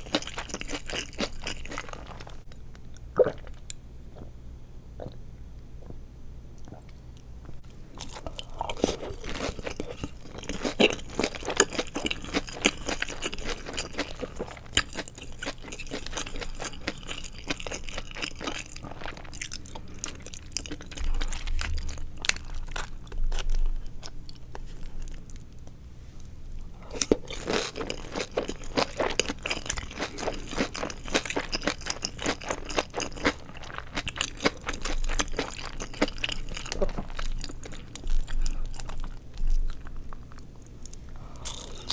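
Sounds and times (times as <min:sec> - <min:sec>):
crunchy chewing: 0:00.0 - 0:02.5, 0:06.6 - 0:41.9.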